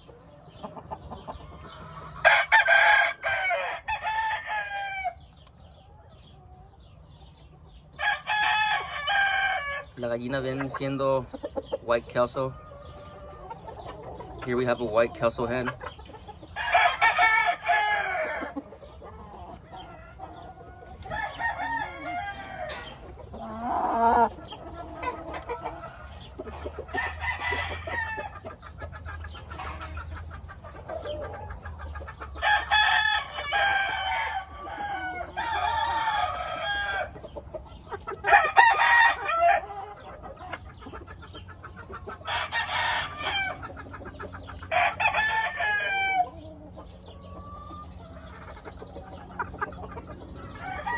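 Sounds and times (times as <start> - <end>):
chickens clucking: 0.0 - 50.9
roosters crowing: 0.0 - 50.9.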